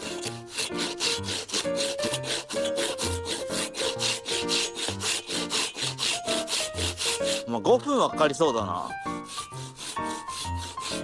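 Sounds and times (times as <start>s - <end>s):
hand saw cutting log: 0.0s - 7.8s, 9.0s - 11.0s
background music: 0.0s - 11.0s.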